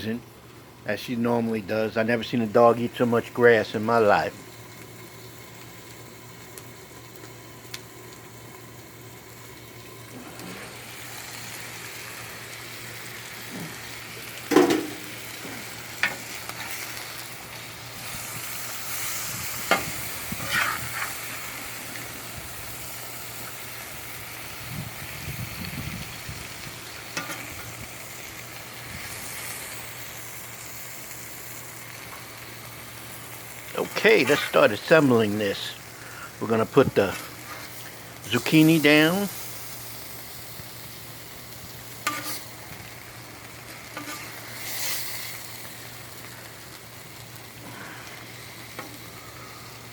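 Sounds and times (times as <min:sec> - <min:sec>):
food sizzling on a griddle: 0:02.1 - 0:49.9.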